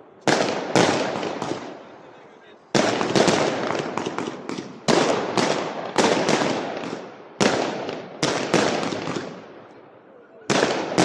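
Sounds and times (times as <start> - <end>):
loud firework bangs: 0.2 - 2.0, 2.7 - 9.7, 10.5 - 11.0.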